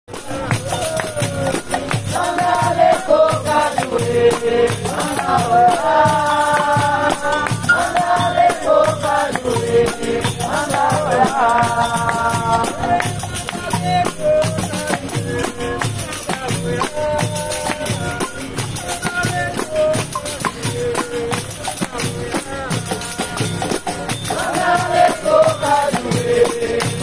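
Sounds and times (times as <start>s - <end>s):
berimbaus struck rhythmically: 0.1s - 27.0s.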